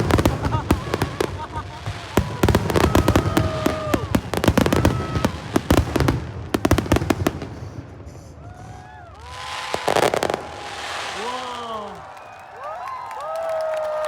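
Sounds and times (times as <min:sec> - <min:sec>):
fireworks bangs and crackling: 0:00.0 - 0:12.1.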